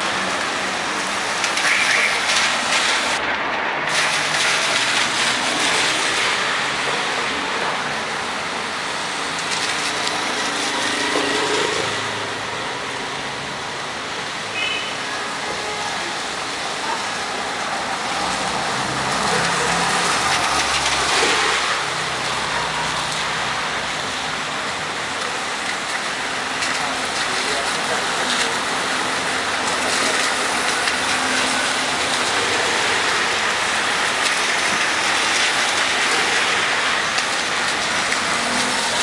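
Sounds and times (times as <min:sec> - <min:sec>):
cars driving past on wet road: 0:00.0 - 0:39.0
rain falling on a street: 0:00.0 - 0:39.0.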